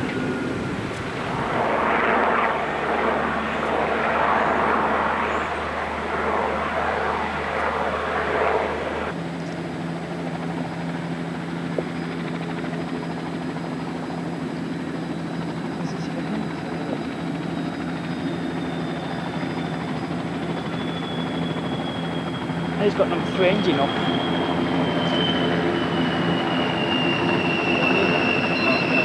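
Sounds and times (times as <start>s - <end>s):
aircraft engine drone: 0.0s - 29.0s
turboprop engines roaring: 0.0s - 29.0s.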